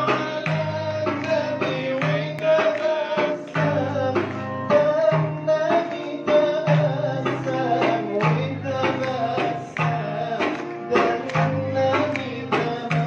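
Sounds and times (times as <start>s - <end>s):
backing music with beat: 0.0s - 13.0s
man singing: 0.0s - 13.0s.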